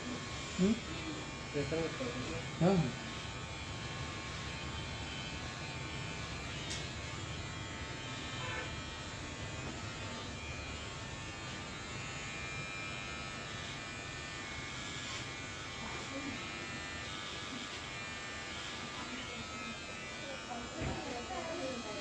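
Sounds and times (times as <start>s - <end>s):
electric hair clipper buzzing: 0.0s - 22.0s.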